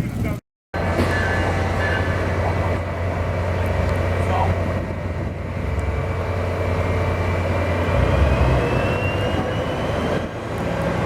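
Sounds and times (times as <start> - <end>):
large vehicle low rumble: 0.0 - 11.0.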